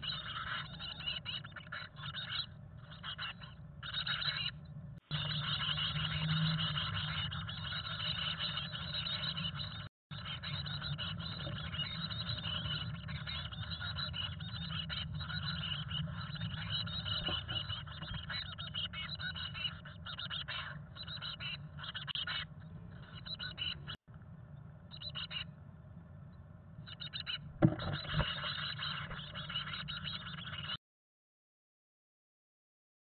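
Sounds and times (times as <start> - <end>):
nestlings begging calls: 0.0 - 24.0, 24.9 - 25.5, 26.8 - 30.8
steady low hum: 0.0 - 30.8.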